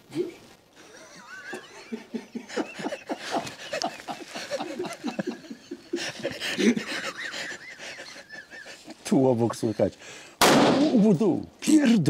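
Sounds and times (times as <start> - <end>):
man chuckling: 0.1 - 10.0.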